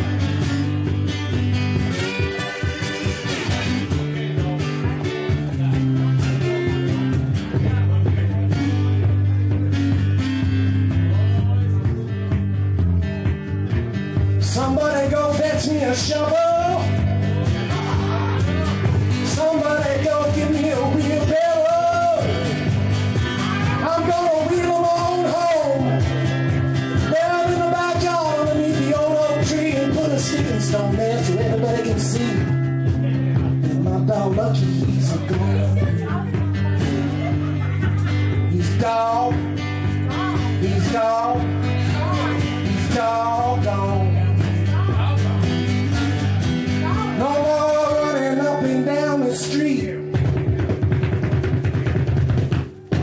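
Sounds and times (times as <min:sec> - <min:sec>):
percussive beat: 0:00.0 - 0:48.4, 0:49.9 - 0:53.0
bass line: 0:00.0 - 0:53.0
blues guitar melody: 0:00.0 - 0:53.0.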